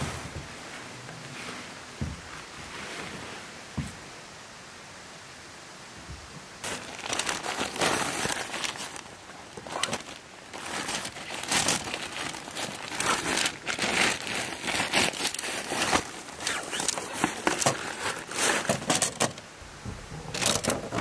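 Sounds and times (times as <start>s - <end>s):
crinkling and rustling: 0.0s - 4.1s, 6.0s - 21.0s.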